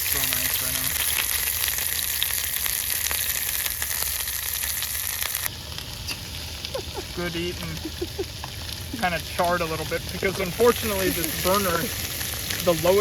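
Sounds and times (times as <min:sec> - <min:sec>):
steak sizzling with pops: 0:00.0 - 0:13.0.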